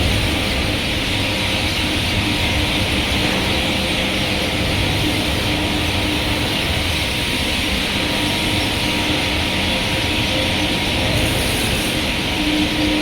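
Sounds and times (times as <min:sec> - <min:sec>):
furnace industrial rumble: 0:00.0 - 0:13.0.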